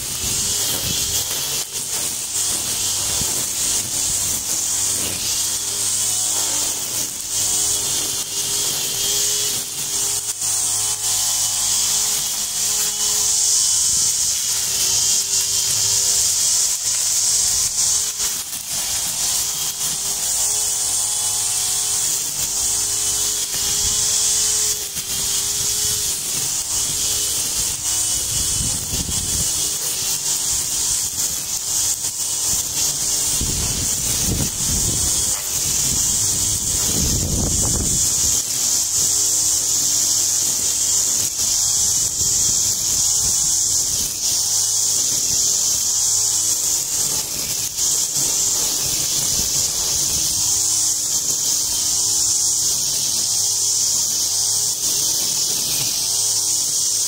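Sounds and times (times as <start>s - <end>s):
motor grass cutter whirring: 0.0s - 57.0s.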